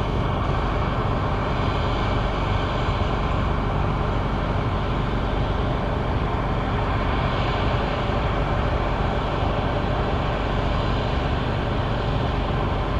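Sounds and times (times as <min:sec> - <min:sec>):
combine harvester running: 0:00.0 - 0:12.9.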